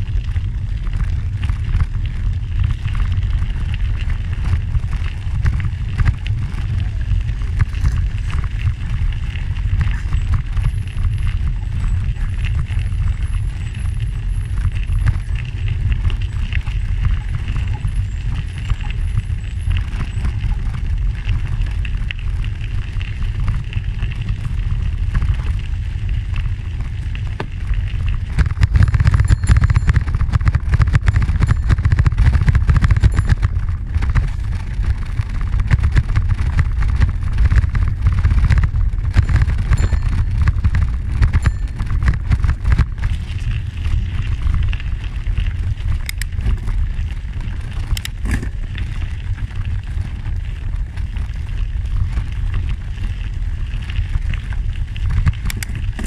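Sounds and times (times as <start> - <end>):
wind rumble on microphone: 0.0 - 56.0
tyres rattling over gravel: 0.1 - 56.0.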